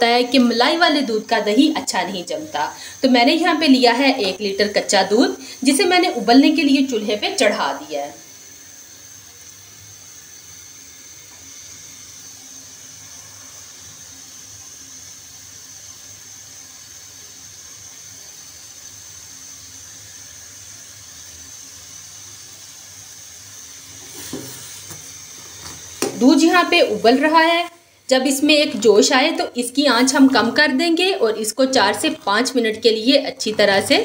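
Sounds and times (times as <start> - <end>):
gas stove burner hissing: 0.0 - 34.0.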